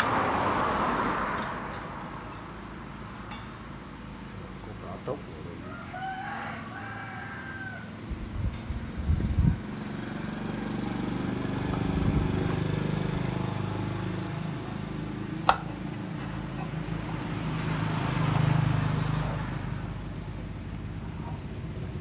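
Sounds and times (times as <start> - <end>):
electric bike motor humming: 2.4 - 22.0.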